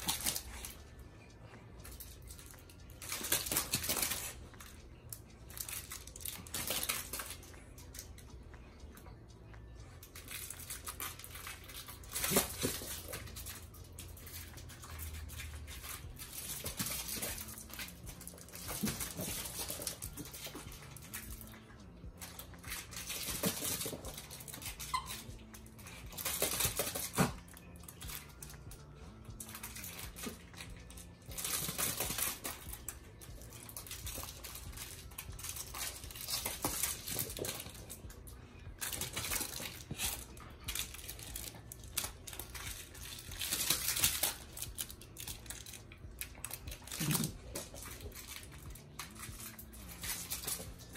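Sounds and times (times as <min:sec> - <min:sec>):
dog scuffling and mouthing toys: 0:09.0 - 0:50.9.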